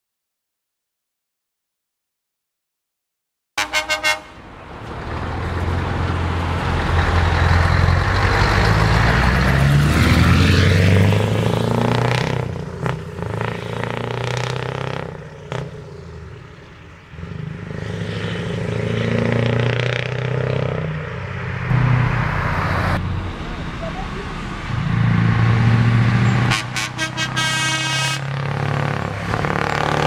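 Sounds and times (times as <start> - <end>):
truck engine accelerating: 3.6 - 30.0
truck pulling away: 4.4 - 30.0.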